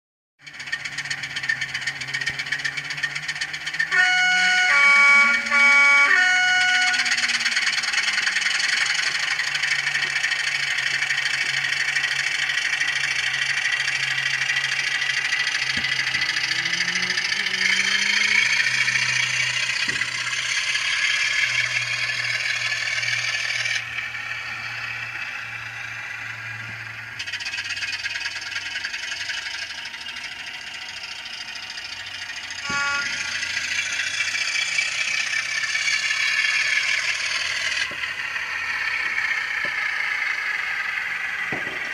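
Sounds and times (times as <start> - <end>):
diesel engine sound from tiny speaker: 0.4 - 41.9
model train wheels rattling: 0.4 - 41.9.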